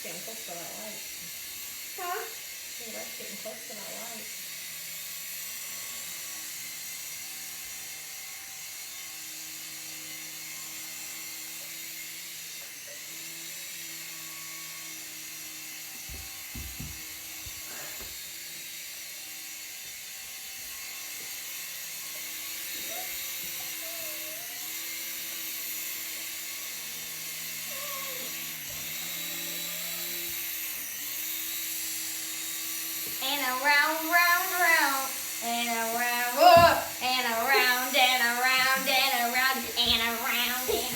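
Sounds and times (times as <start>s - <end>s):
toy helicopter rotors whirring: 0.0s - 40.9s.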